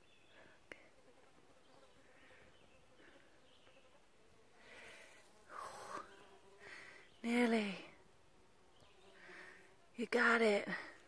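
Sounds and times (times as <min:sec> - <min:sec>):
flying insect buzzing: 0:00.0 - 0:09.9.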